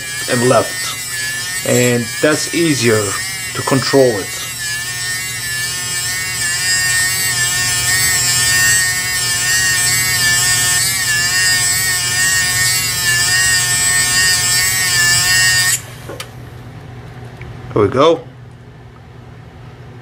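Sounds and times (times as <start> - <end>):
steel grinding on wheel: 0.0 - 16.0
electric motor whine: 0.0 - 16.4.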